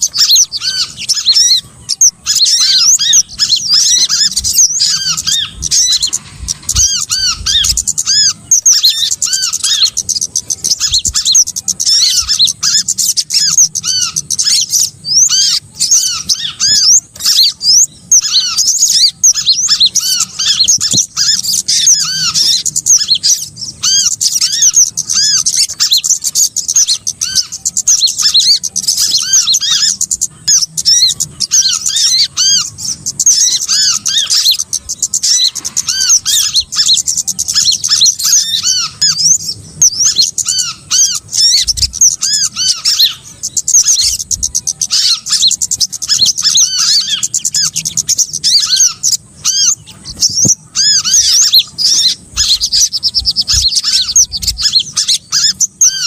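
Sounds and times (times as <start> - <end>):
songbirds chirping chorus: 0.0 - 56.0.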